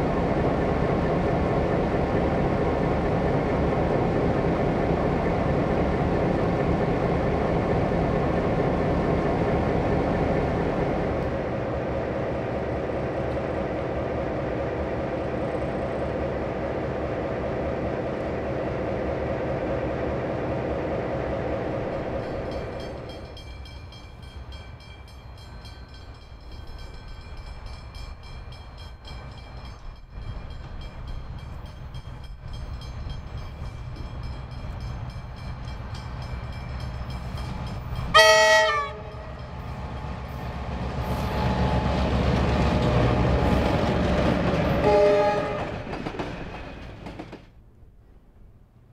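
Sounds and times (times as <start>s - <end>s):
diesel locomotive engine idling: 0.0s - 48.5s
distant train approaching: 0.0s - 48.9s.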